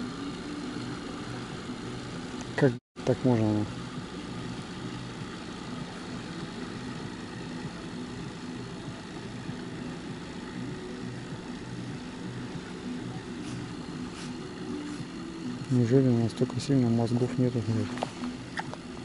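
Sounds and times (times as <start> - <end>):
boat outboard motor running: 0.0 - 19.0.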